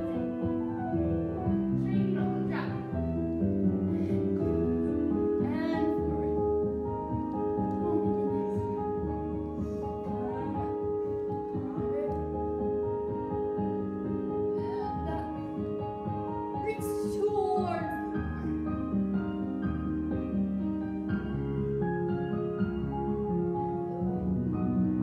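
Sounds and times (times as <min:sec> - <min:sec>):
slow adagio music: 0:00.0 - 0:25.0.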